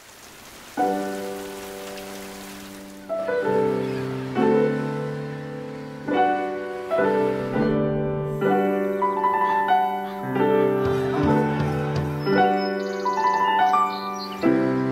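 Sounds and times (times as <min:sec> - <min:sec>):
slow gentle piano music: 0:00.6 - 0:14.9.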